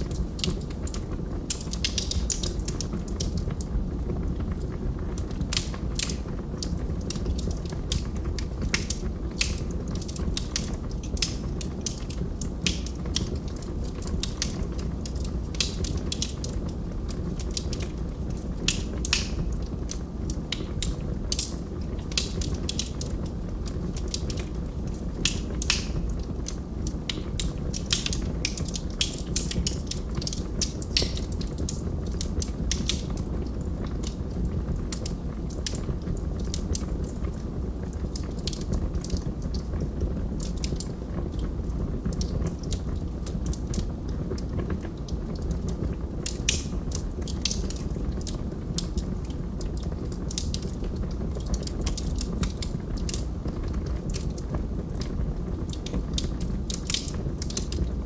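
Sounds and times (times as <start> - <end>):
logs crackling and popping: 0.0 - 58.0
low rumble of fire: 0.0 - 58.0.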